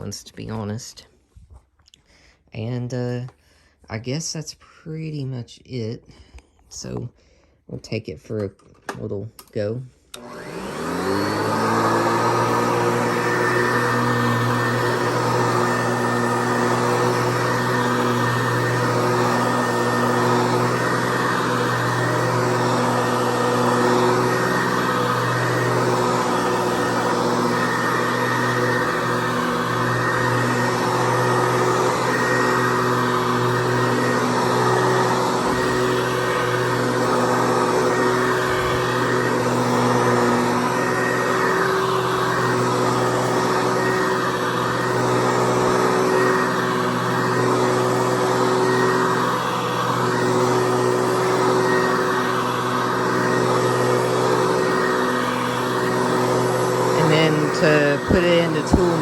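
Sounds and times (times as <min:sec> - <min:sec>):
upright vacuum cleaner running: 0:08.9 - 0:59.0.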